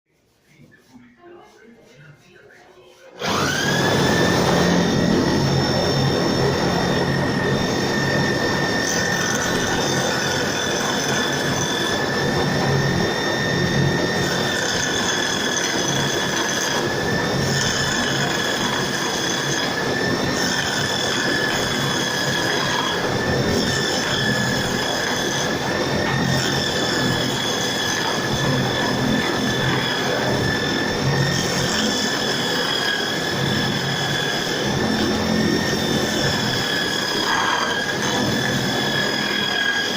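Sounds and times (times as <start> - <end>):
electric drill motor whine: 3.2 - 39.9.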